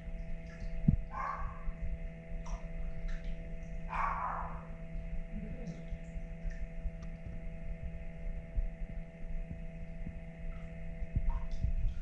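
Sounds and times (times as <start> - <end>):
aquarium pump humming: 0.0 - 12.0
uneven low rumble: 0.0 - 12.0.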